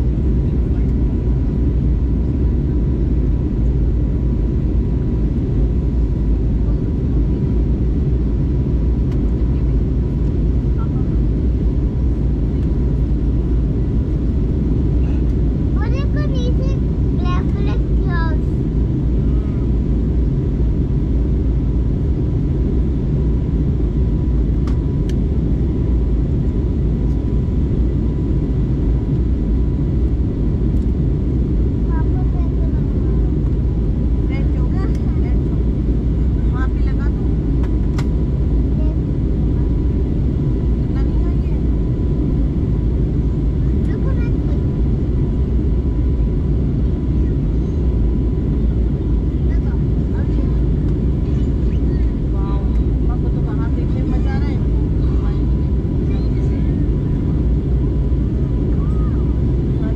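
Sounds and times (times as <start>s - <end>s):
airplane cabin rumble: 0.0s - 59.9s
faint steady whine: 0.0s - 59.9s.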